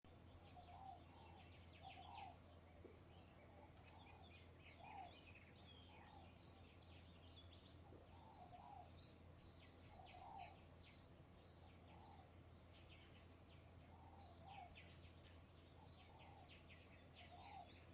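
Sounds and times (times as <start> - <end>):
light breeze: 0.0 - 17.9
birds chirping and trilling: 0.1 - 17.9.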